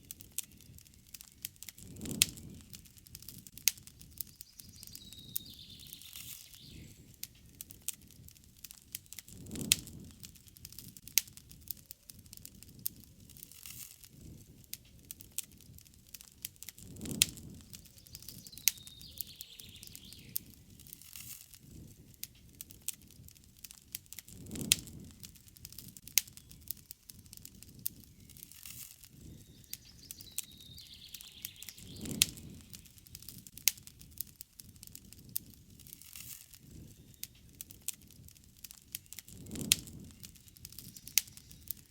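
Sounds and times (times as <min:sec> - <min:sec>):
campfire crackling and popping: 0:00.0 - 0:41.9
low rush of flames: 0:00.0 - 0:41.9.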